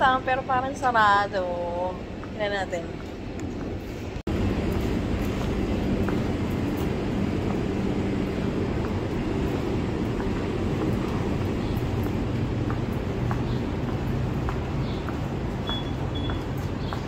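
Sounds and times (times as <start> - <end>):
low mechanical rumble and hum: 0.0 - 17.0.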